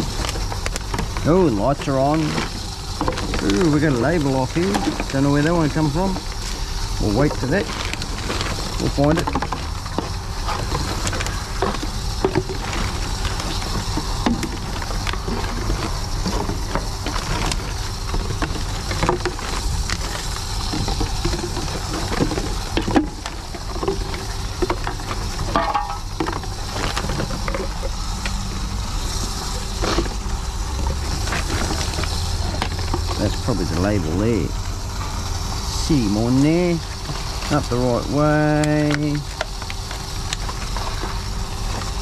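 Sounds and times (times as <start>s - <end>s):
plastic bottles clicking and crinkling: 0.0s - 28.6s, 29.2s - 42.0s
vending machine humming: 0.0s - 42.0s.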